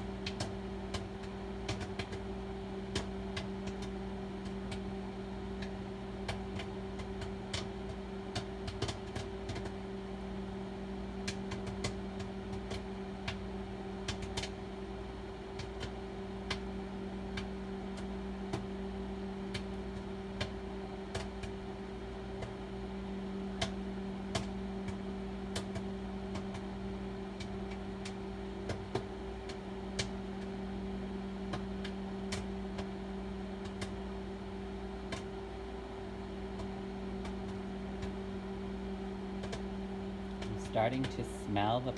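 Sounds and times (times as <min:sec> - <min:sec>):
microwave oven humming: 0:00.0 - 0:41.9
popcorn popping: 0:00.0 - 0:41.9.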